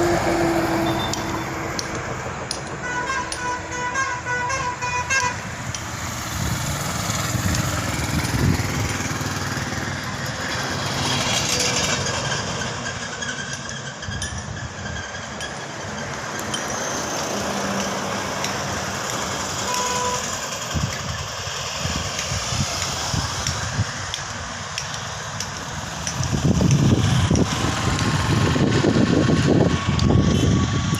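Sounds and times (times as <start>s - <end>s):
vehicles passing: 0.0s - 30.9s.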